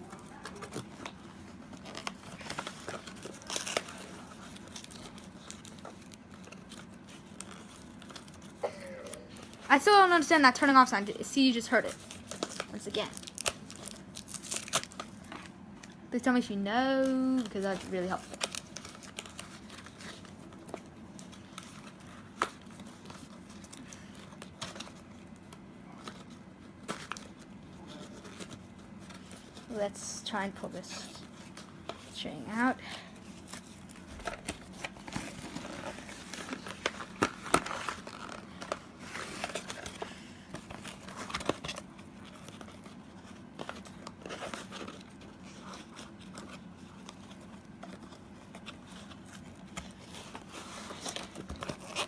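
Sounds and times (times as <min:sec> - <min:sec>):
packaging crinkling: 0:00.0 - 0:16.0, 0:17.0 - 0:29.7, 0:32.8 - 0:52.0.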